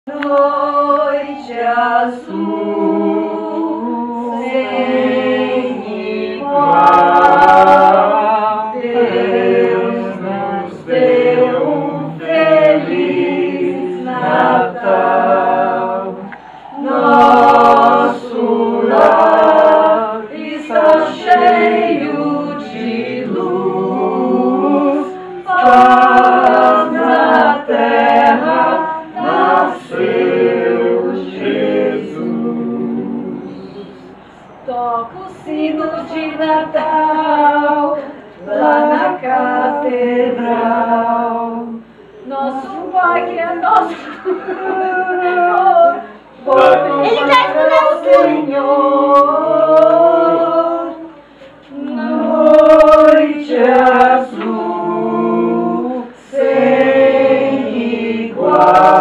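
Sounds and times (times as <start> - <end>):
group singing unaccompanied: 0.1 - 59.0.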